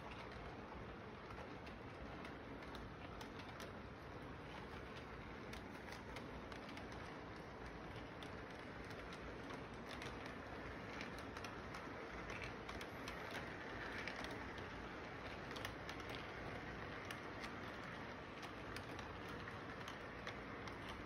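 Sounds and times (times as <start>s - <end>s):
model train wheels clicking: 0.0s - 21.0s.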